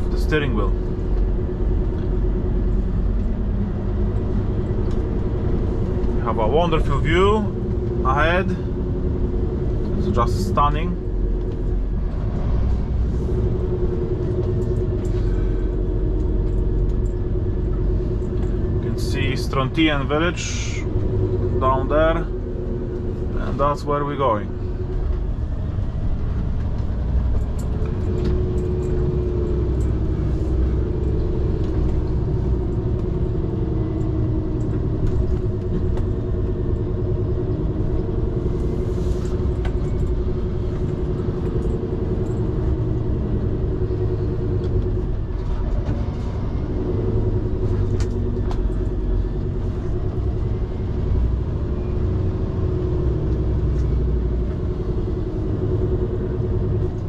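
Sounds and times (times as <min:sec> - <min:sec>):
truck diesel engine running: 0:00.0 - 0:57.0
tyre and road rumble: 0:00.0 - 0:57.0.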